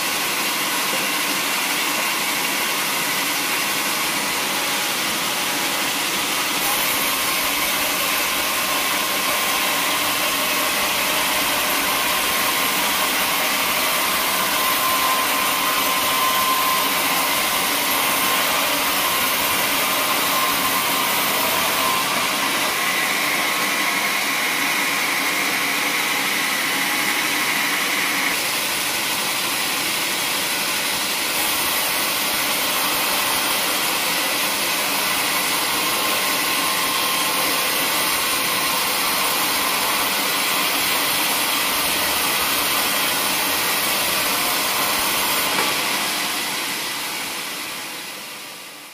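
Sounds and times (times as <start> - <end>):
band saw cutting wood: 0.0 - 48.9.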